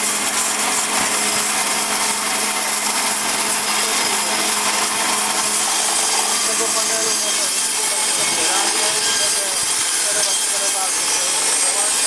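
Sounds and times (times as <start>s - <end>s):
band saw blade cutting log: 0.0s - 12.0s.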